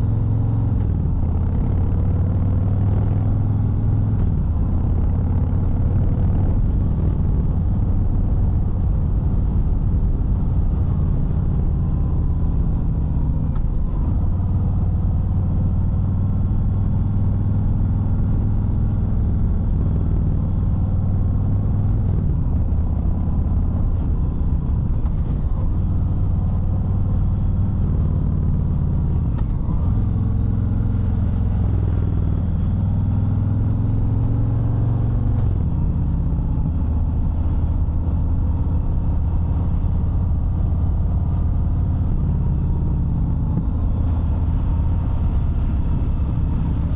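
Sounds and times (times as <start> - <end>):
motorcycle engine rumbling: 0.0 - 46.9.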